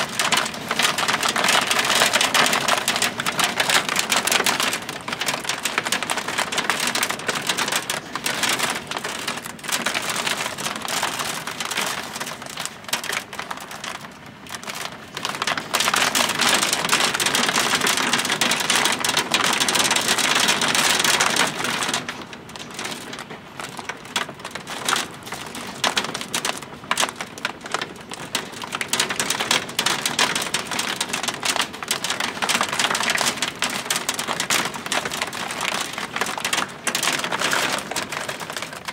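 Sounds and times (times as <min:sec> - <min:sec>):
hail clattering: 0:00.0 - 0:38.9.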